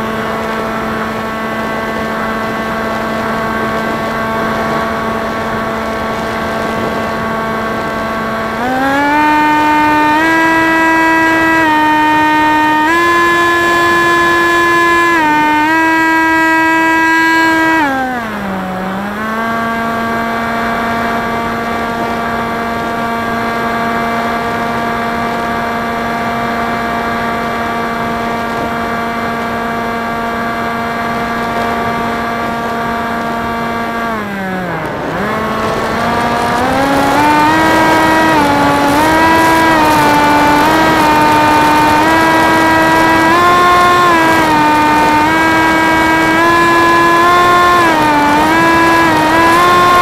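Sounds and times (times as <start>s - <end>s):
electric motor and propeller whine: 0.0s - 50.0s.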